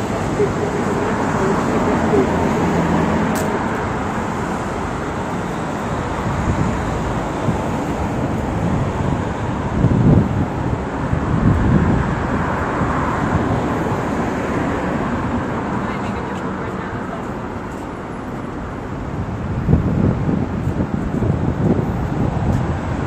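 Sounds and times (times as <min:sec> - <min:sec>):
city road traffic: 0:00.0 - 0:23.0.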